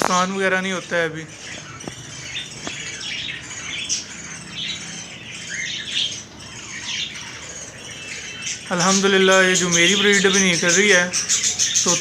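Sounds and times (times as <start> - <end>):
parrots chattering and squawking: 0.0 - 12.0.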